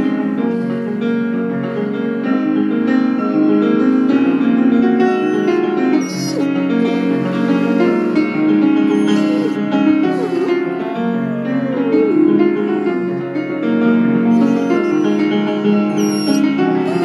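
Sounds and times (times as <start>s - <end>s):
dog howling: 0.0s - 17.0s
piano chords: 0.0s - 17.0s.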